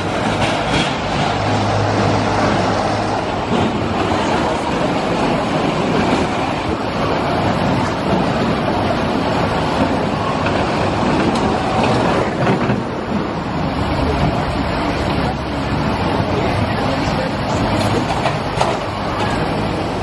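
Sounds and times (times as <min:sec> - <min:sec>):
roller coaster wheels rumbling on rails: 0:00.0 - 0:20.0.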